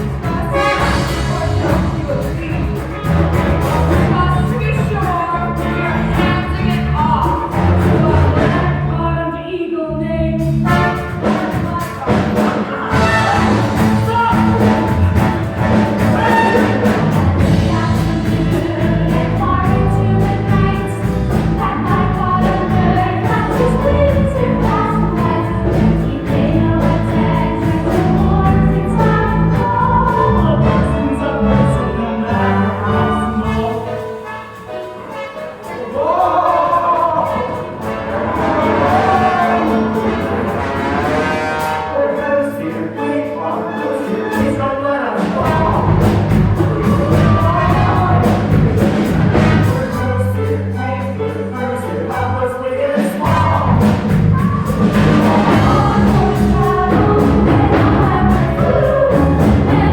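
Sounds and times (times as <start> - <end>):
group of voices singing: 0.0 - 59.9
orchestral backing: 0.0 - 59.9.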